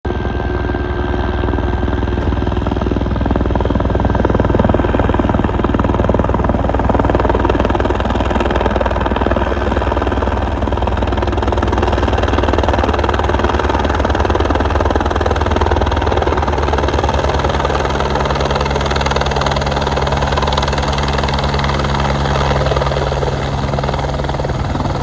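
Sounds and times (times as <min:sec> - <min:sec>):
helicopter rotor and engine drone: 0:00.1 - 0:25.0.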